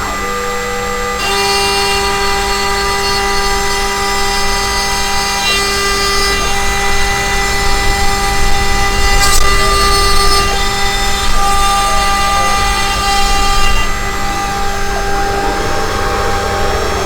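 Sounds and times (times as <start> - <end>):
cnc router spindle whine: 0.0 - 17.0
router cutting plywood: 0.0 - 17.0.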